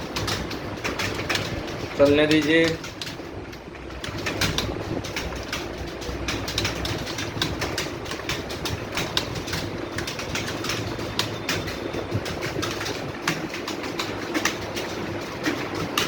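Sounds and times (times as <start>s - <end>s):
keyboards clattering: 0.0s - 16.0s
steady low hum: 0.0s - 16.0s.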